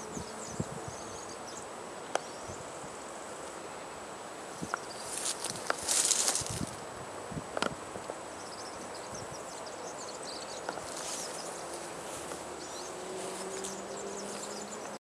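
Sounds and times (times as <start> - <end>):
background hiss: 0.0 - 15.0
insects chirping: 0.0 - 15.0.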